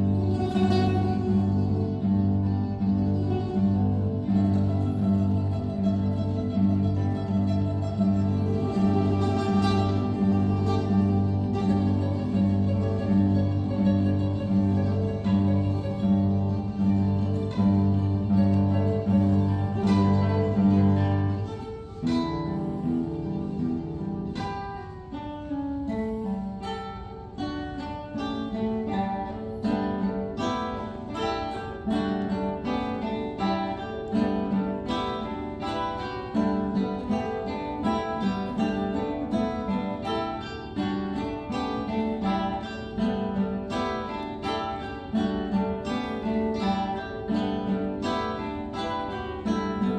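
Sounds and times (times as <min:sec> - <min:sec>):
classical guitar quartet playing: 0:00.0 - 0:49.9.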